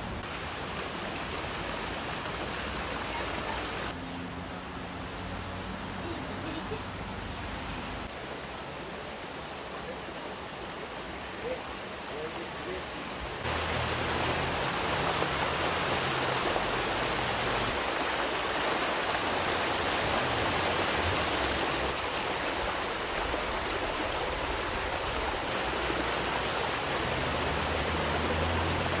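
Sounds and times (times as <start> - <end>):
floodwater rushing along street: 0.0 - 29.0.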